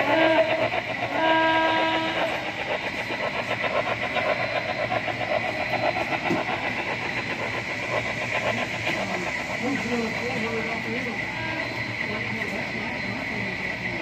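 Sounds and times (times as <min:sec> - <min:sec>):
model steam locomotive chuffing: 0:00.0 - 0:14.0
model train cars rolling on track: 0:00.0 - 0:14.0.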